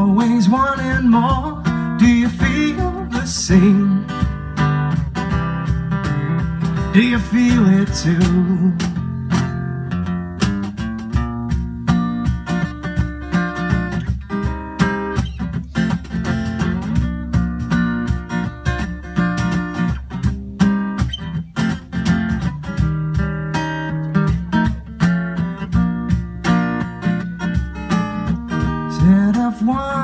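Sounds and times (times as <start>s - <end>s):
acoustic guitar strumming: 0.0s - 30.0s
cajon hits: 0.0s - 30.0s.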